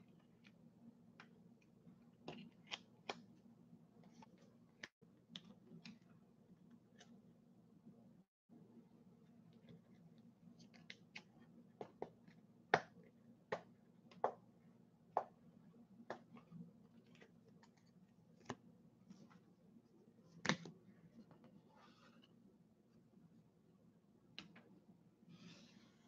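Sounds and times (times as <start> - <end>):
faint hum: 0.0 - 26.0.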